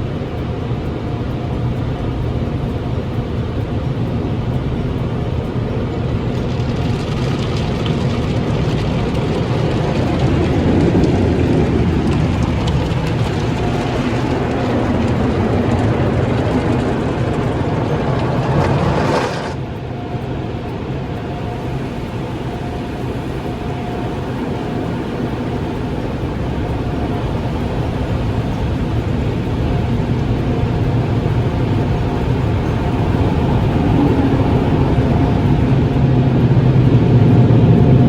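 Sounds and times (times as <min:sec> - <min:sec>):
car wash equipment rushing: 0:06.0 - 0:19.8, 0:21.1 - 0:38.0.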